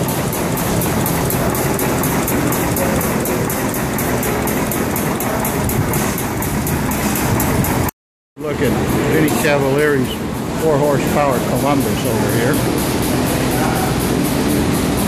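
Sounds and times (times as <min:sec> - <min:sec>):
stationary engine ticking: 0:00.0 - 0:07.9, 0:08.5 - 0:15.0
steady low hum: 0:00.0 - 0:15.0.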